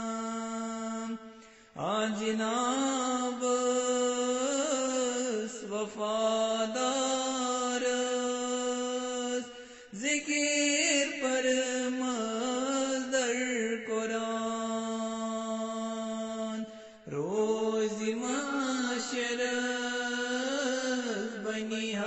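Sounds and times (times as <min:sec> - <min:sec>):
solo voice chanting: 0:00.0 - 0:22.0.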